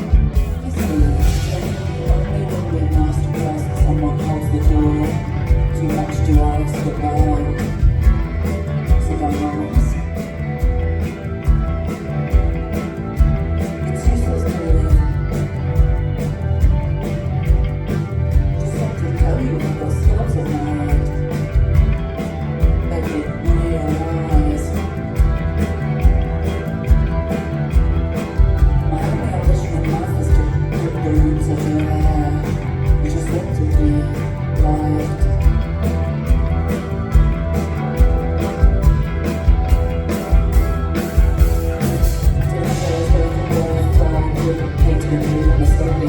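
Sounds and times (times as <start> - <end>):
bass: 0.0 - 46.0
drums: 0.0 - 46.0
electric guitar: 0.0 - 46.0.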